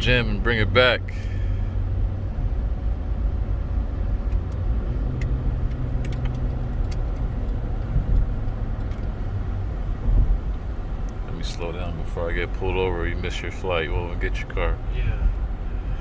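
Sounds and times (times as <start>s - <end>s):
car engine drone and road rumble: 0.0s - 16.0s.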